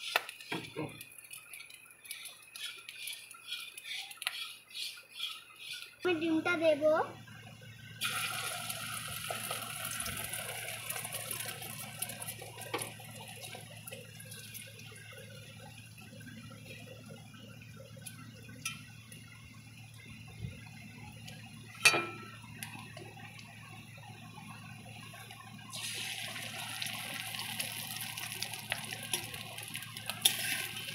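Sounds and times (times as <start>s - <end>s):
egg sizzling in hot oil: 0.0s - 6.2s, 8.0s - 30.9s.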